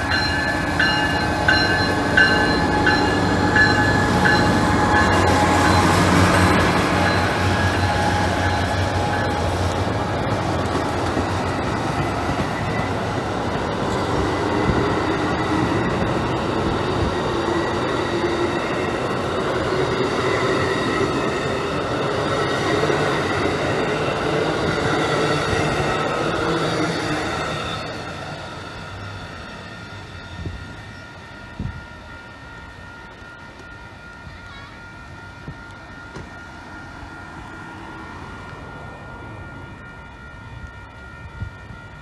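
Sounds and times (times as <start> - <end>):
diesel locomotive drone: 0.0 - 42.0
train wheels rumbling on rail: 0.0 - 42.0.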